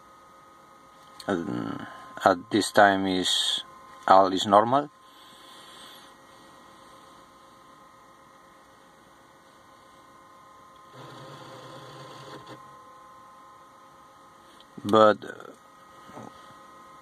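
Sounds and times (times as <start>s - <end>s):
faint electrical hum: 0.0s - 17.0s
low buzz: 0.0s - 17.0s.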